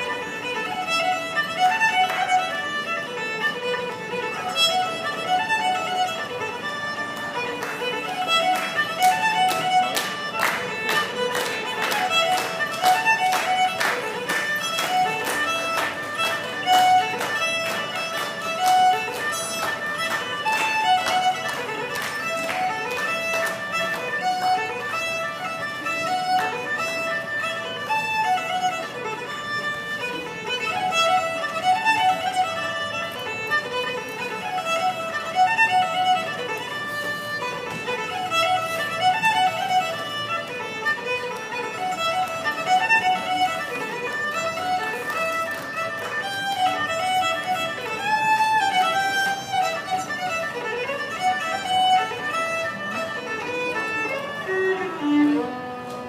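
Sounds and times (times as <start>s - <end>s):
solo fiddle playing fast tune: 0.0s - 56.0s.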